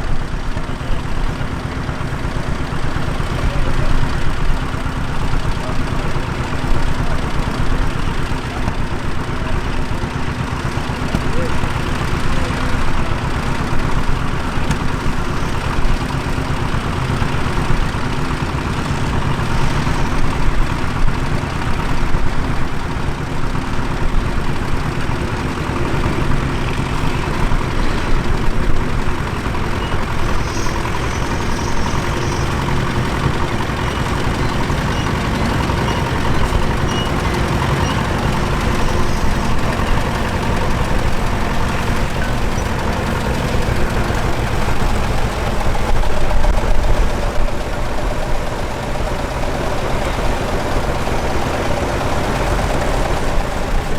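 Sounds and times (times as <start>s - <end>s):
tractor engine rumbling: 0.0s - 53.9s.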